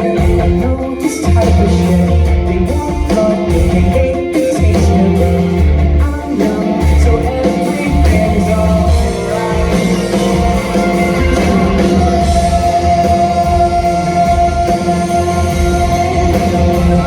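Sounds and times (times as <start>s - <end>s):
live rock band with singing: 0.0s - 17.0s.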